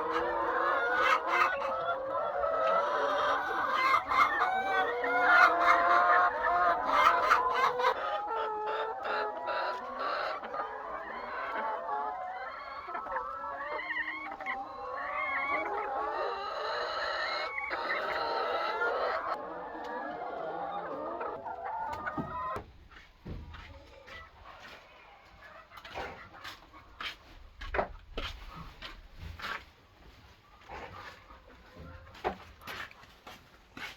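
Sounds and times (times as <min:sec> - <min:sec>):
chickens clucking and calling: 0:00.0 - 0:33.9.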